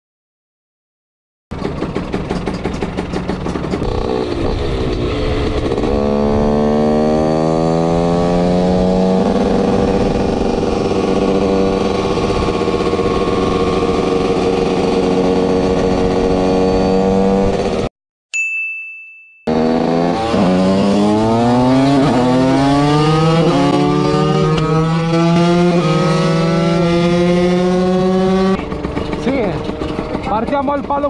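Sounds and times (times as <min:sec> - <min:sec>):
motorcycle engine pulling hard: 0:01.5 - 0:17.9, 0:19.5 - 0:31.0.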